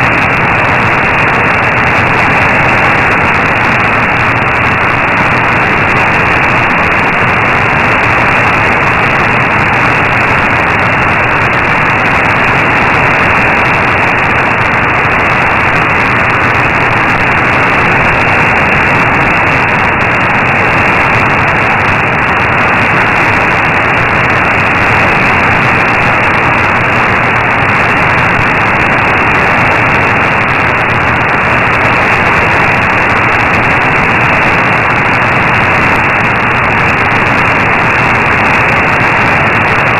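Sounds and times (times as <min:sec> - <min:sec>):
shortwave radio static: 0:00.0 - 0:39.9.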